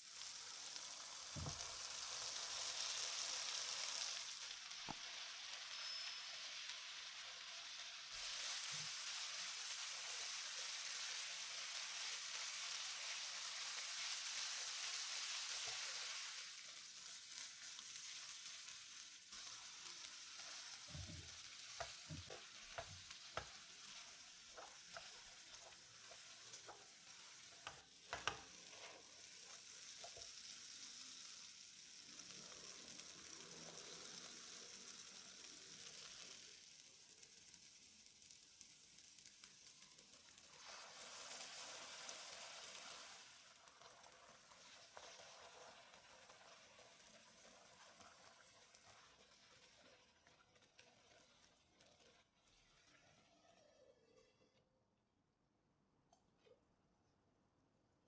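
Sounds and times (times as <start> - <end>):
beans sizzling in a frying pan: 0.0 - 54.4.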